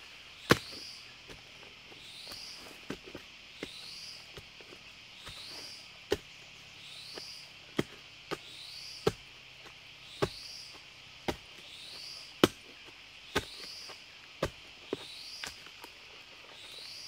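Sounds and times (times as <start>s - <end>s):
high insect drone with chirps: 0.0s - 17.0s
digging bar chopping into soil: 0.4s - 6.4s, 7.0s - 15.9s.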